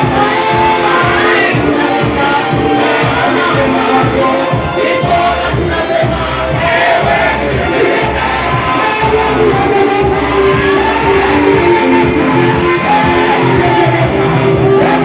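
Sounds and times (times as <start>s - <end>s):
band playing worship music: 0.0s - 15.0s
many voices singing together: 0.0s - 15.0s.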